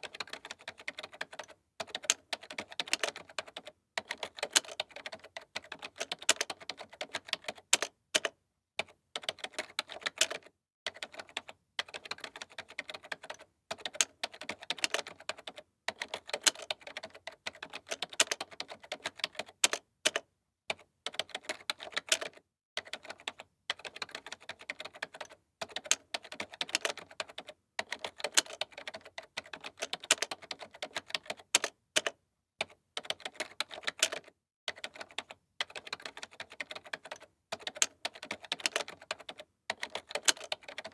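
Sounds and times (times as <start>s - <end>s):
typing on computer keyboard: 0.0s - 40.9s.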